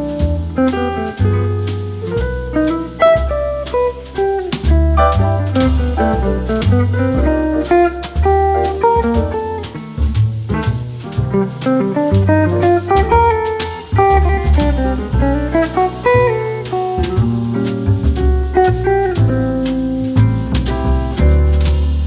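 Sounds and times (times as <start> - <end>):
guitar-led instrumental music: 0.0 - 22.0.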